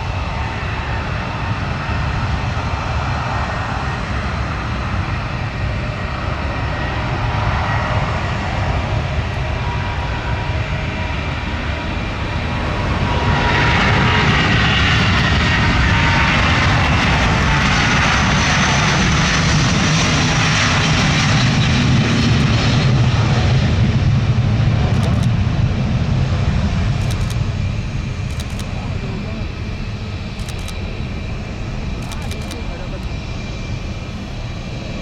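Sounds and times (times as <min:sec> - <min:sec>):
high jet whine: 0:00.0 - 0:35.0
jet engines at takeoff: 0:00.0 - 0:35.0.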